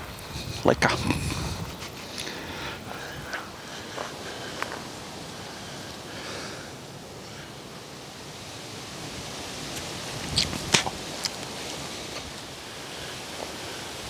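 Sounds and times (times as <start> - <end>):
rustling leaves: 0.0 - 14.0
wind: 0.0 - 14.0.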